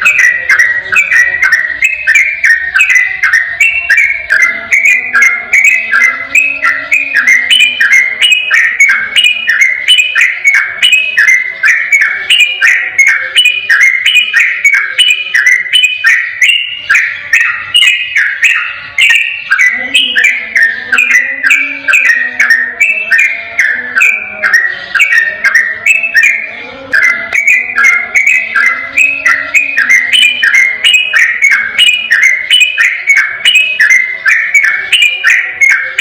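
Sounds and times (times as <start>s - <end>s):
bulbul singing whistled song: 0.0s - 36.0s.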